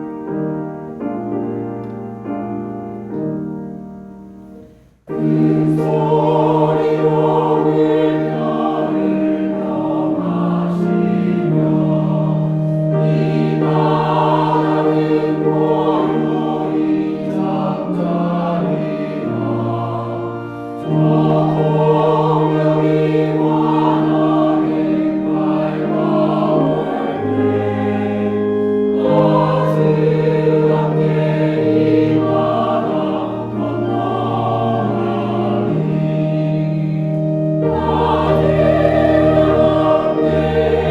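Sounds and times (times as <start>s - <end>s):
choir singing a hymn: 0.0s - 40.9s
organ: 0.0s - 40.9s
piano: 0.0s - 40.9s.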